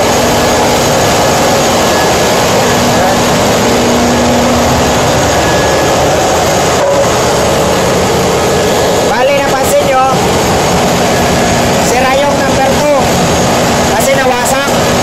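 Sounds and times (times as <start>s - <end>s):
engine room machinery din: 0.0s - 15.0s
faint machine hums: 0.0s - 15.0s.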